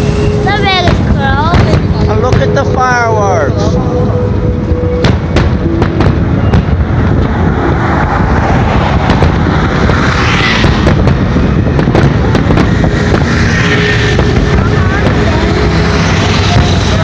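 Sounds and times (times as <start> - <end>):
distant fireworks bangs: 0.0 - 2.8, 4.8 - 17.0
car traffic rumble: 0.0 - 17.0.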